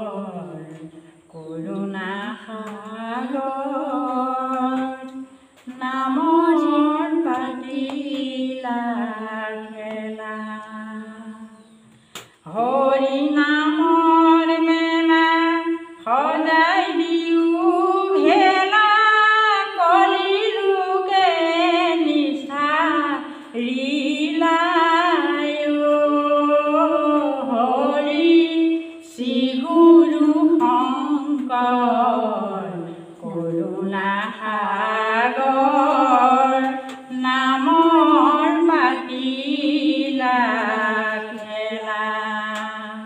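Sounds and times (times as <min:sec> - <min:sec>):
woman singing unaccompanied: 0:00.0 - 0:43.0.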